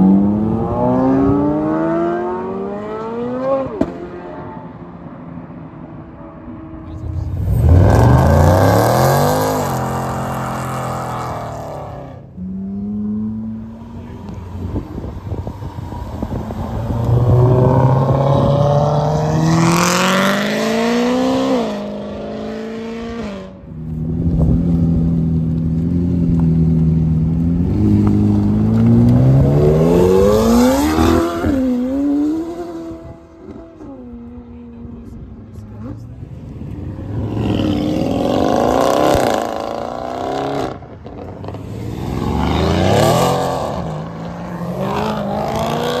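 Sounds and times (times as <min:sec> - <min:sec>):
cars accelerating hard past: 0:00.0 - 0:24.8, 0:27.5 - 0:34.2, 0:36.5 - 0:46.0.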